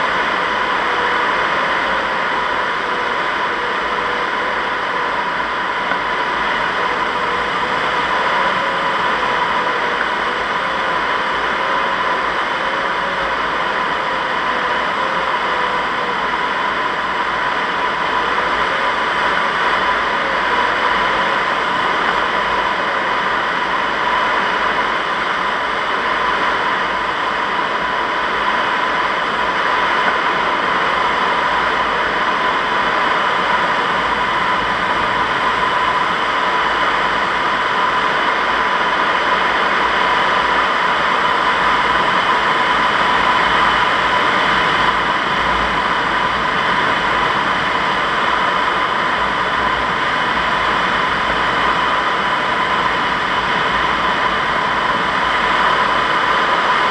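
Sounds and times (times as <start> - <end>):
steady high tone: 0.0 - 56.9.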